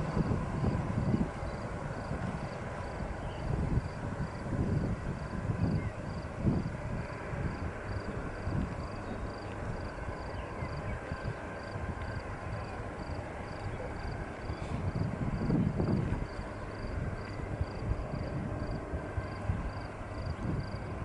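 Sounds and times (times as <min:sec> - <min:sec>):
distant jet engines rumbling: 0:00.0 - 0:21.0
wind buffeting microphone: 0:00.0 - 0:21.0.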